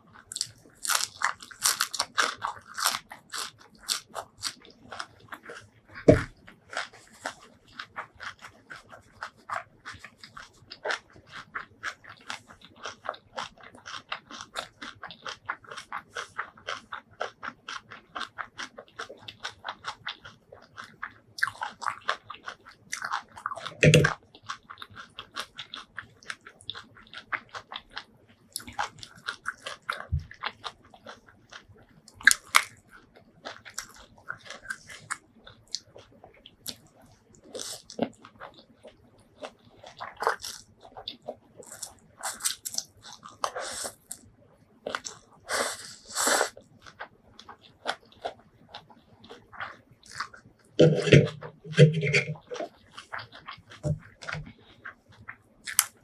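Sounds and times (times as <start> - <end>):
chewing and crunching: 0.0 - 56.0.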